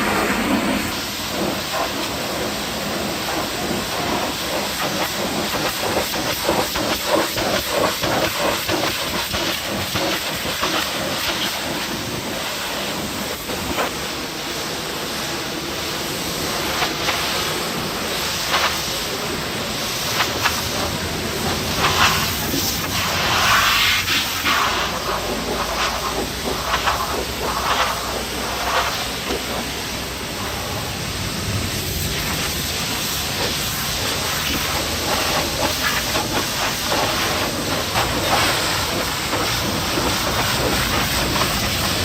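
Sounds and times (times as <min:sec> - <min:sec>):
pressure washer spraying water: 0:00.0 - 0:42.0.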